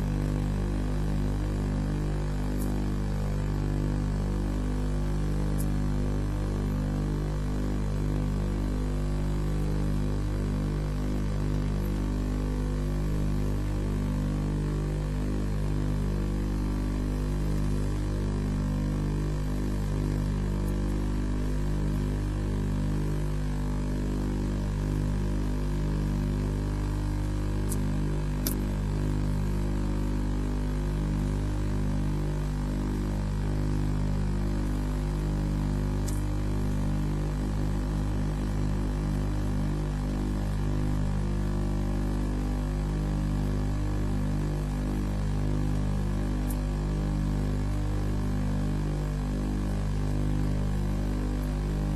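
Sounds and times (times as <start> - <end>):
electrical hum with buzzing overtones: 0.0 - 51.9.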